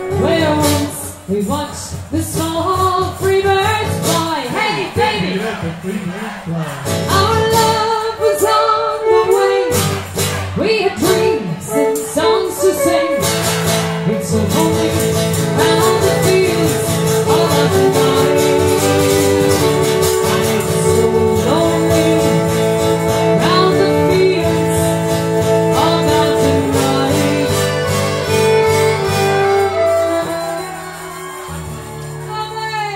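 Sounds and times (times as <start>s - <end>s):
strummed acoustic guitar: 0.0s - 32.4s
folk band playing: 0.0s - 32.9s.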